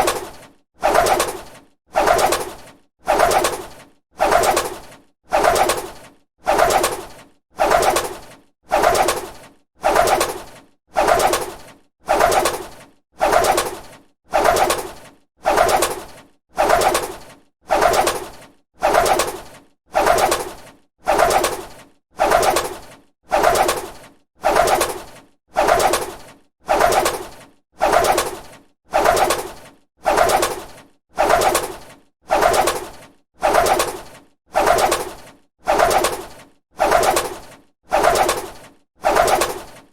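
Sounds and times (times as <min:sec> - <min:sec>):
bird wings flapping: 0:00.0 - 0:39.9.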